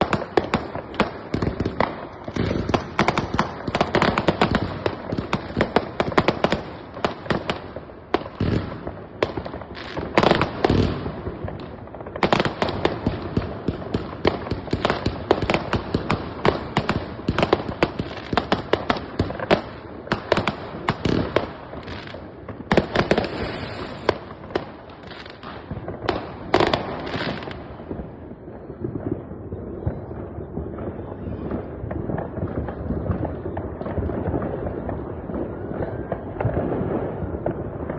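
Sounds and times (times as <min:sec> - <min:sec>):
fireworks and firecrackers banging: 0:00.0 - 0:37.9.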